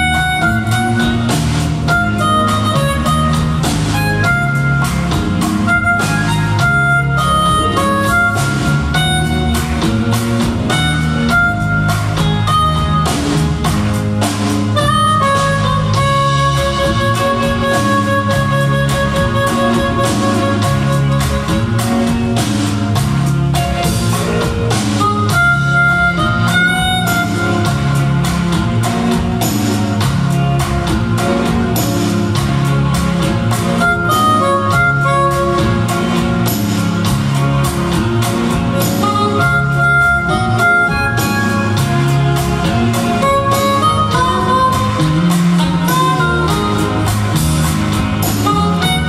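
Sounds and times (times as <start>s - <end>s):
bass guitar: 0.0s - 49.0s
drum kit beat: 0.0s - 49.0s
electric guitar: 0.0s - 49.0s
hand percussion: 0.0s - 49.0s
harmonica lead: 0.0s - 49.0s.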